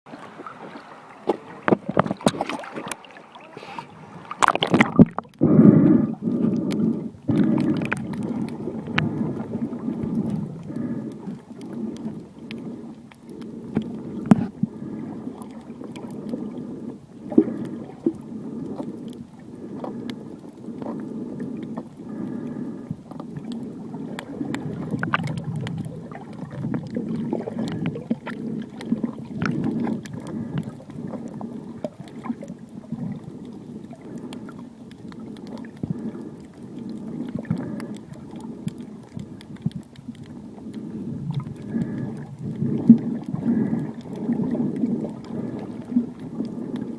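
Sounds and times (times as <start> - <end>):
underwater rumble of moving water: 0.1 - 46.9
sharp underwater clicks: 4.3 - 46.9.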